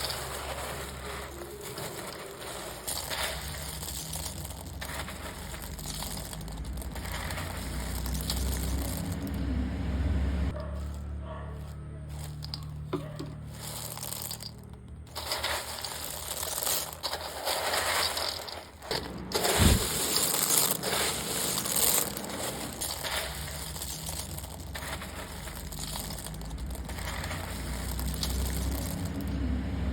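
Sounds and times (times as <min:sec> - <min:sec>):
coffee beans rattling: 0:00.0 - 0:09.5, 0:10.5 - 0:29.6.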